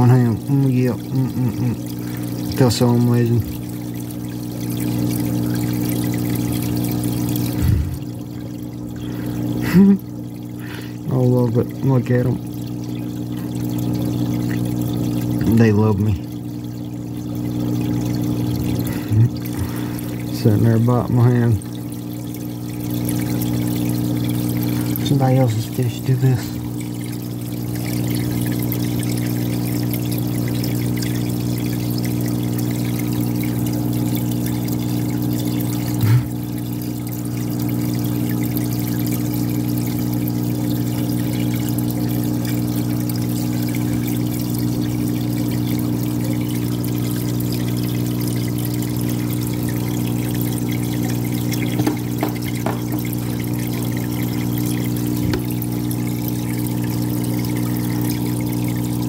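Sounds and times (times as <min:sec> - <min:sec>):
filter pump humming: 0:00.0 - 0:59.0
water pouring and splashing: 0:00.0 - 0:59.0.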